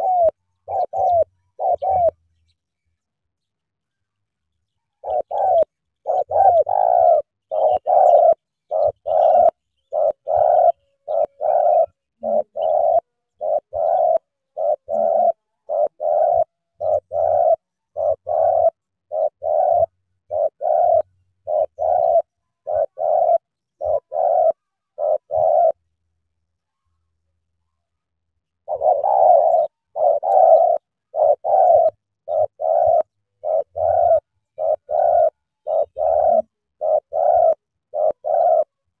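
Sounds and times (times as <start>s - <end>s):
dove cooing: 0.0s - 2.3s, 5.0s - 26.0s, 28.6s - 39.0s.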